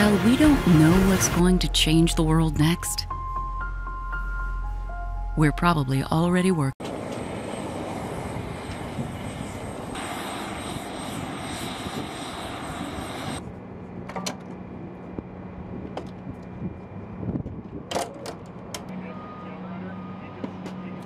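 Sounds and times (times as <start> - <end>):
aircraft engines running: 0.0 - 2.8, 6.8 - 21.0.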